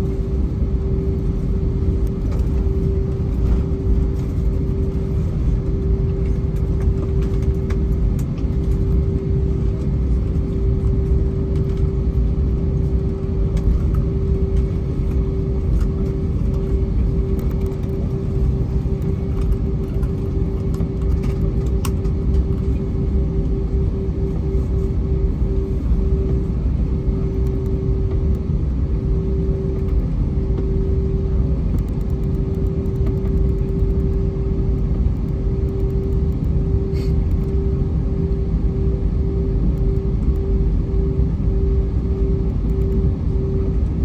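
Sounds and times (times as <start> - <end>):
jet engines idling rumble: 0.0 - 44.0
mid-pitched cabin hum: 0.0 - 44.0.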